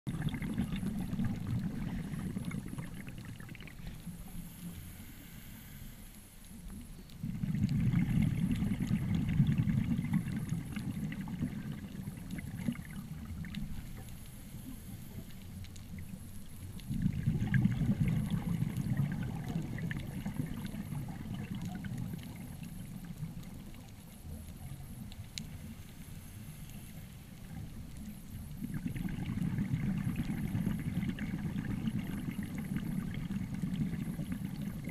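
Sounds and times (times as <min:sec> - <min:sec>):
underwater exhaled bubbles rumbling: 0:00.1 - 0:04.5, 0:06.5 - 0:26.0, 0:26.8 - 0:34.9.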